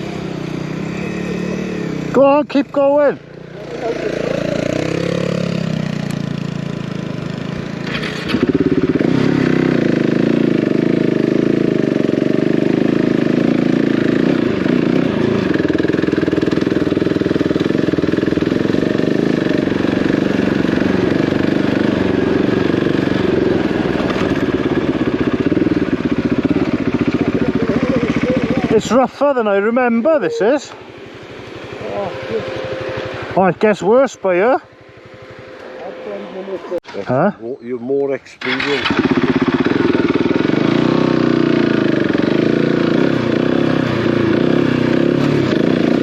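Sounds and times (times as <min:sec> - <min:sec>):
off-road motorcycle engine: 0:00.0 - 0:46.0.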